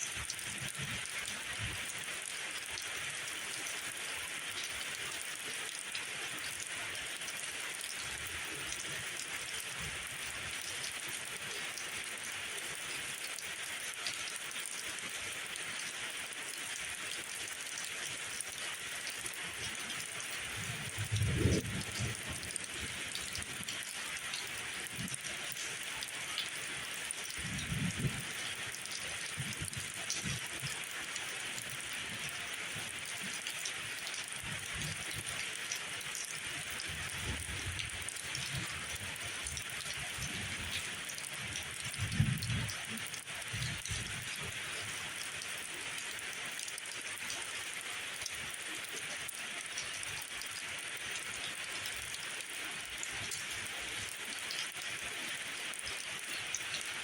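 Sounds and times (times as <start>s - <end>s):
rain falling through trees: 0.0s - 57.0s.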